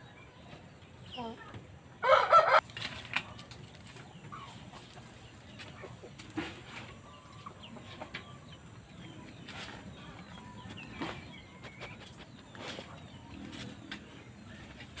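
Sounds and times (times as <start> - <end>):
chickens clucking: 0.4 - 15.0.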